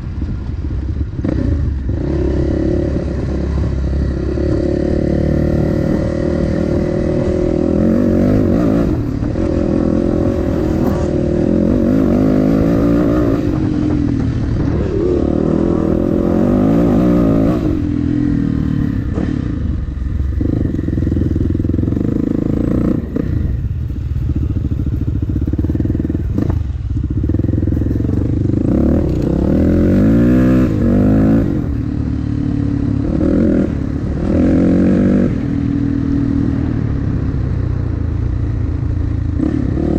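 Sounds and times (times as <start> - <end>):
dirt bike engine revving: 1.2 - 23.6, 25.0 - 36.6.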